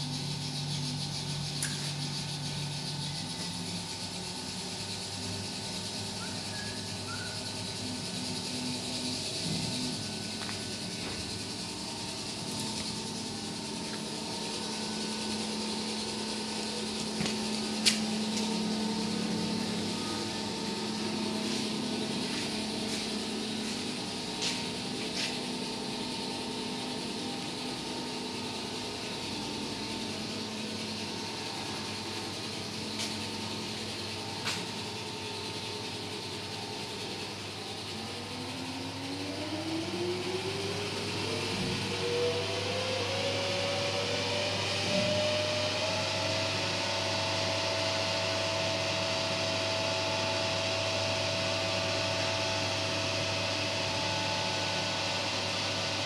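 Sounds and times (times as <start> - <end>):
electric drive humming: 0.0 - 56.0.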